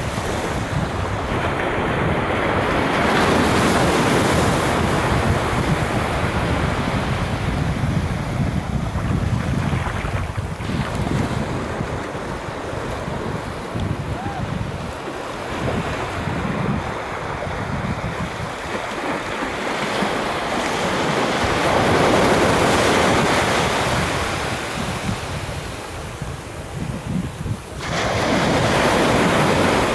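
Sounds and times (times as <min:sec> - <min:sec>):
small waves washing on sand: 0:00.0 - 0:29.9
wind buffeting microphone: 0:00.0 - 0:29.9.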